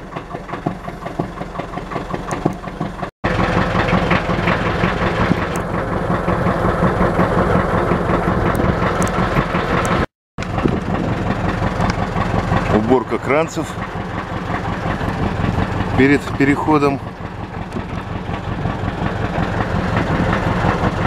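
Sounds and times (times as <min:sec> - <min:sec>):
motor boat engine running: 0:00.0 - 0:21.0.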